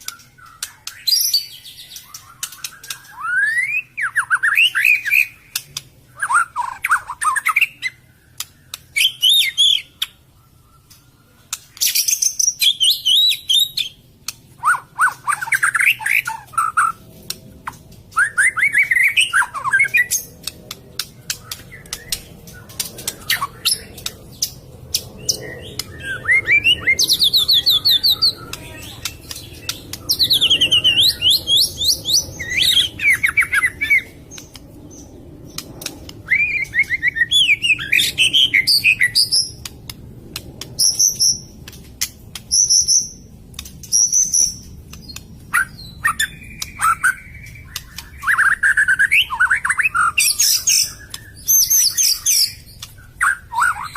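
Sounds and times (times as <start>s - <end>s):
songbird singing: 0.0s - 53.9s.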